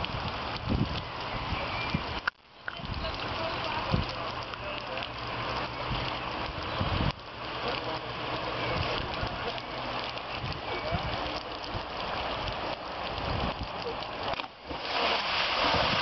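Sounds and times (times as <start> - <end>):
rushing hiss of outdoor noise: 0.0 - 16.0.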